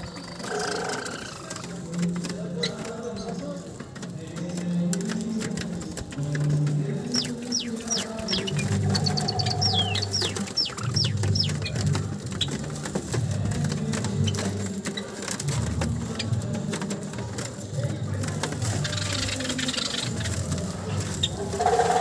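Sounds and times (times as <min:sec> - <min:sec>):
birds pecking seed on wood: 0:00.0 - 0:22.0
sparrows chirping: 0:00.0 - 0:22.0.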